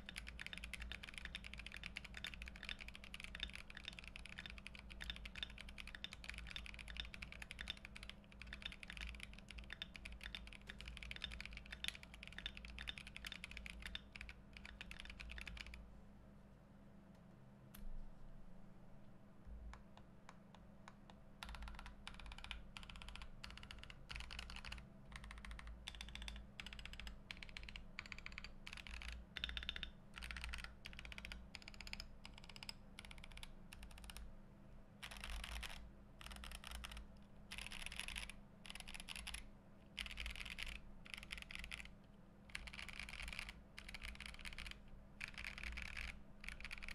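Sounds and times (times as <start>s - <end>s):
mechanical keyboard typing: 0.0s - 15.8s, 20.9s - 34.2s, 35.0s - 39.4s, 40.0s - 46.9s.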